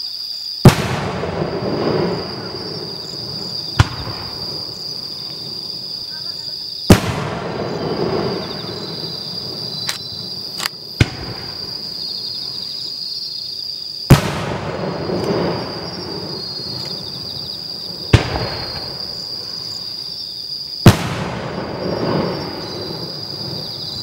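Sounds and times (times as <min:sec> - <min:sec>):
insects chirping: 0:00.0 - 0:24.0
small firework pops: 0:00.6 - 0:12.7, 0:14.1 - 0:17.4, 0:18.1 - 0:19.9, 0:20.8 - 0:24.0
loud firework booms: 0:00.6 - 0:13.0, 0:13.9 - 0:24.0.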